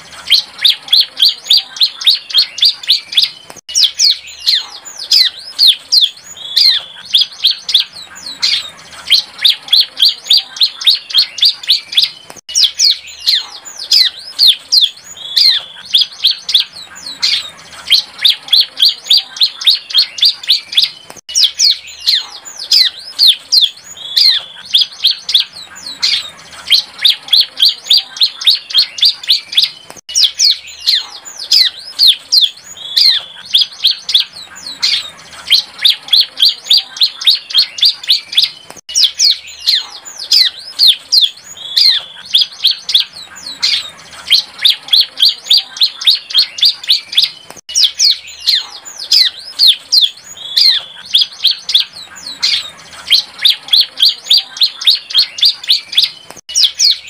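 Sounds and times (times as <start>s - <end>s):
bird chirping song: 0.0s - 57.0s.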